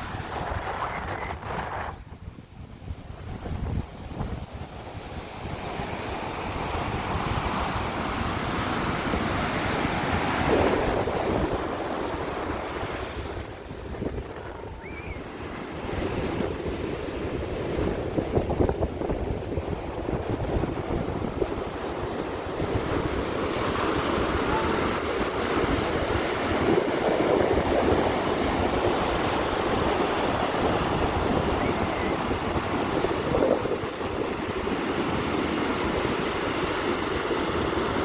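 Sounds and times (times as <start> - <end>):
wind buffeting microphone: 0.0 - 38.0
ocean surf washing in: 3.2 - 38.0.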